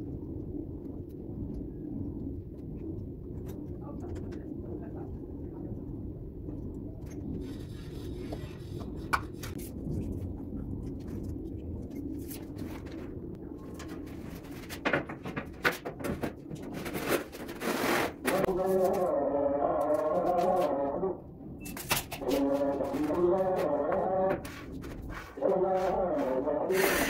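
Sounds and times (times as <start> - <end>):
low background rumble: 0.0 - 17.5, 18.1 - 27.0.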